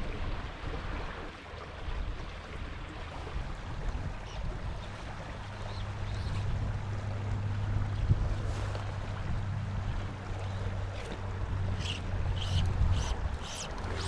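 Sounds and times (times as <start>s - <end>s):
stream water running: 0.0s - 14.0s
wind rumbling on microphone: 0.0s - 14.0s.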